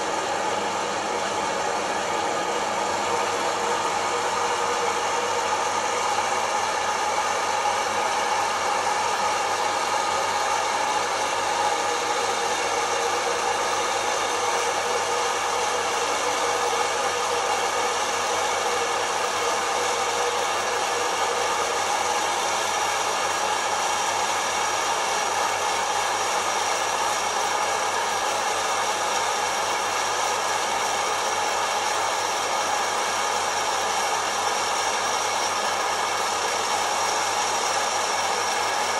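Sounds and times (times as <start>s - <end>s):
coffee roaster fan whooshing: 0.0s - 38.9s.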